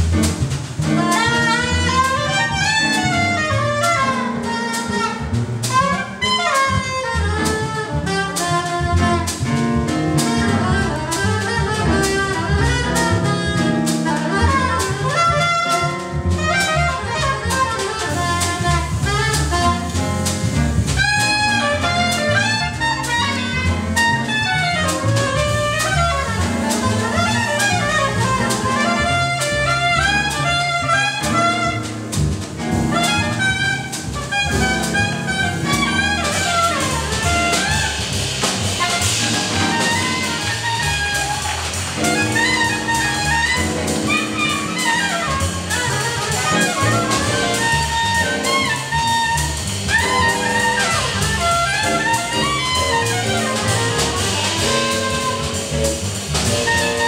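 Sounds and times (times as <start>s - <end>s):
drum kit with ride cymbal: 0.0s - 57.0s
plucked upright bass: 0.0s - 57.0s
soprano saxophone melody: 1.0s - 9.3s, 10.4s - 20.0s, 21.0s - 32.1s, 32.9s - 38.0s, 38.7s - 57.0s.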